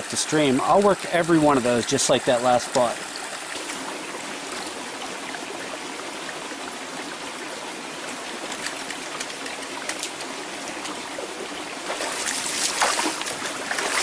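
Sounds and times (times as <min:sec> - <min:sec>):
brook running over stones: 0:00.0 - 0:14.0.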